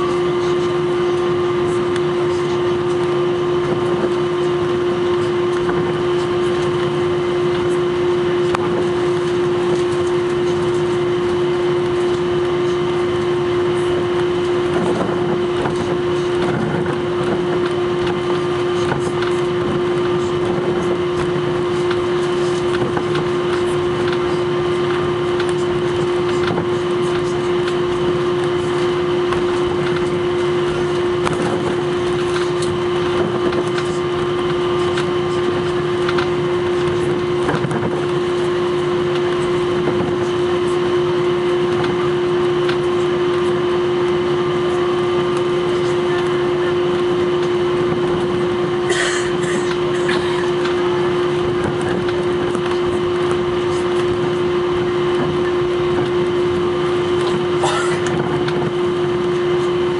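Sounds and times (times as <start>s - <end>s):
airplane cabin droning: 0.0s - 59.9s.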